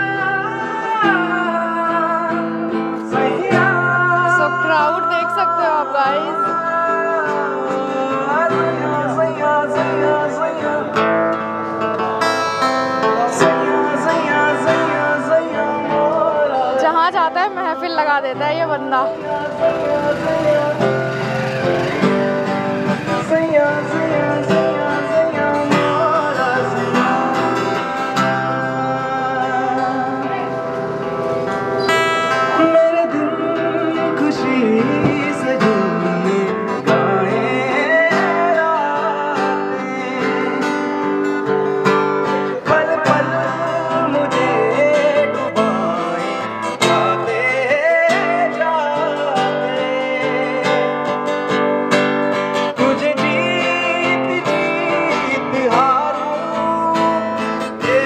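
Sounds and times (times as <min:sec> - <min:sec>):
man singing: 0:00.0 - 0:58.0
strummed acoustic guitar: 0:00.0 - 0:58.0.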